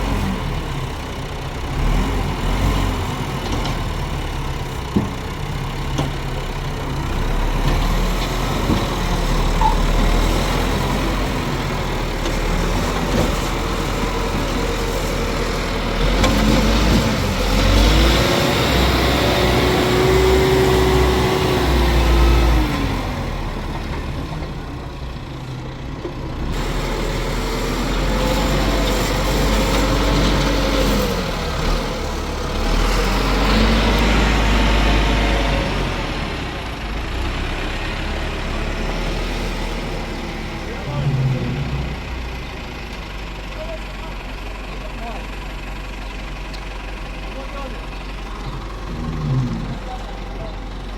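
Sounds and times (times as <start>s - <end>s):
engine revving: 0.0s - 5.1s, 6.9s - 25.0s, 26.3s - 43.0s, 47.3s - 50.9s.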